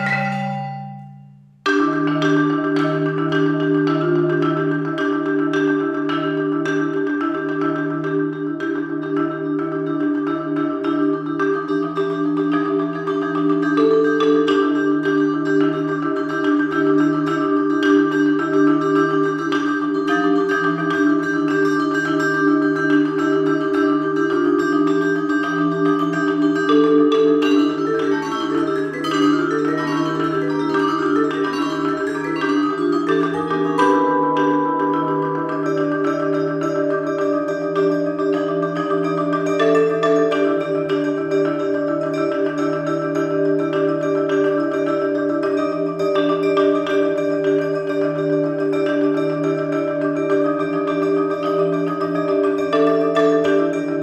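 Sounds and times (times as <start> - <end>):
marimba strokes: 0.0 - 54.0
vibraphone: 0.0 - 54.0.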